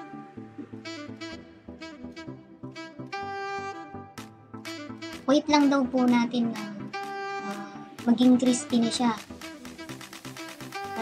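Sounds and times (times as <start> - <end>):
saxophone background music: 0.0 - 11.0.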